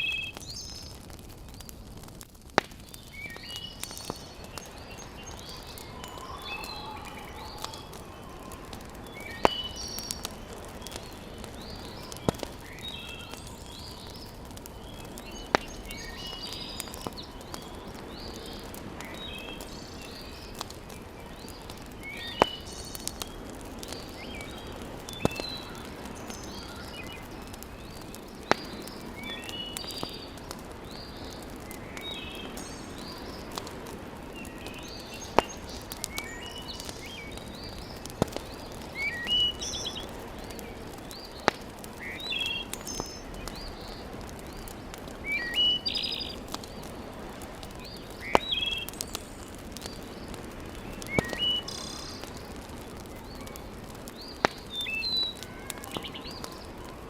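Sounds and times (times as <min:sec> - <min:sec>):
wood fire crackling: 0:00.0 - 0:57.0
birds chirping: 0:02.7 - 0:47.0, 0:47.6 - 0:57.0.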